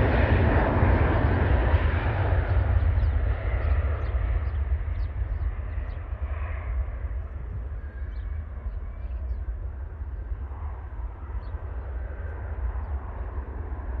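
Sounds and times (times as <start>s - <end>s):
distant jet airliner roar: 0.0s - 14.0s
wind rumble on microphone: 0.0s - 14.0s.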